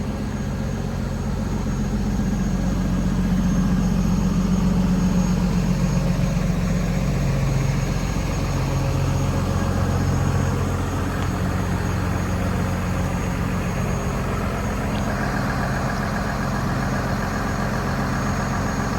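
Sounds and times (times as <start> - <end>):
diesel lorry engine idling: 0.0 - 18.9.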